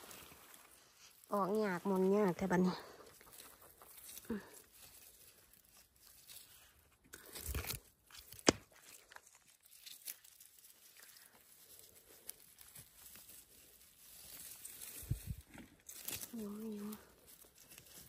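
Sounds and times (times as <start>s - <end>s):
moss crunching and tearing: 0.0s - 18.0s.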